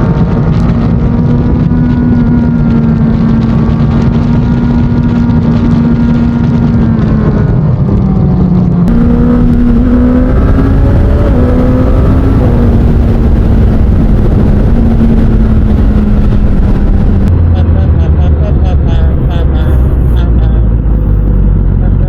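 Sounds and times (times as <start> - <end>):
motorcycle engine running loud: 0.0 - 22.0.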